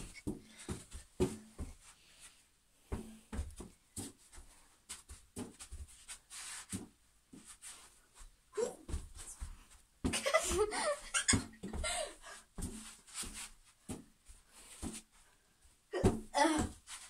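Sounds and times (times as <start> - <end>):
shuffling footsteps: 0.0 - 17.0.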